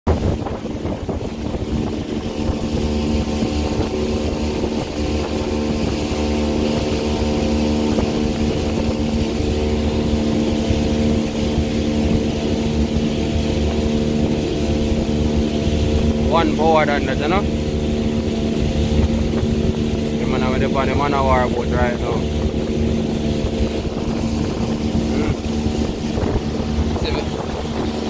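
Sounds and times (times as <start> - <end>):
boat motor running: 0.1 - 28.0
wind: 0.1 - 28.0.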